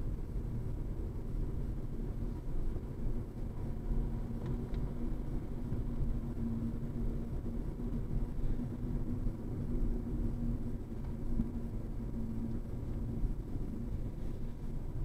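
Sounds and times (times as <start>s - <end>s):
car road noise rumble: 0.0s - 15.0s
constant hum: 0.0s - 15.0s.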